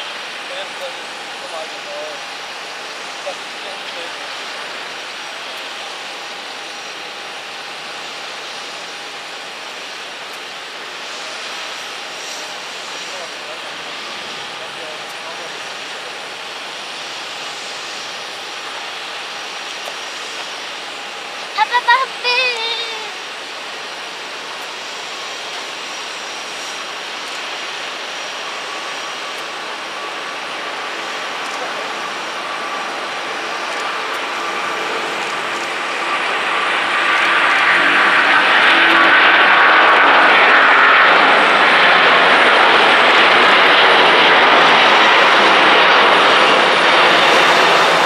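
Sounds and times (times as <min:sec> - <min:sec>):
distant jet engines hissing: 0:00.0 - 0:48.0
faint jet engine whine: 0:00.0 - 0:48.0.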